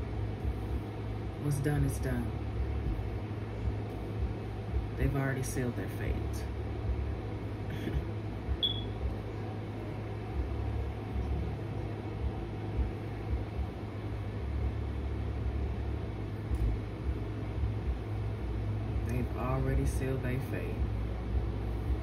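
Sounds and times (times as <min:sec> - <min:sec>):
low machine hum and rumble: 0:00.0 - 0:22.0.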